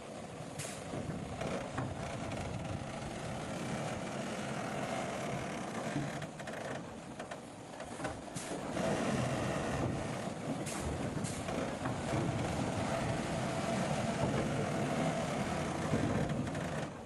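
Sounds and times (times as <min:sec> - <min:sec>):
heavy earthmoving machinery running: 0:00.0 - 0:17.0.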